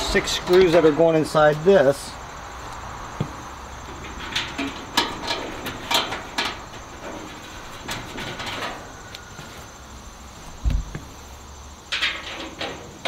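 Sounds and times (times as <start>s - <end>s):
sheet metal clanking and scraping: 0.0s - 1.6s, 3.0s - 13.0s.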